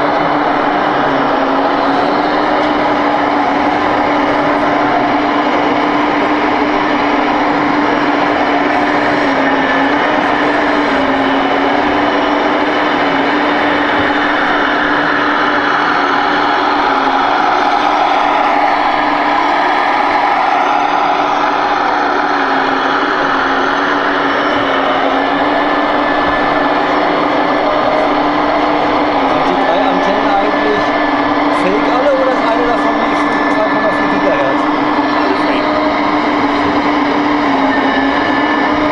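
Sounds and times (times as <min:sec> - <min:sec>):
diesel engine sound running: 0:00.0 - 0:38.9.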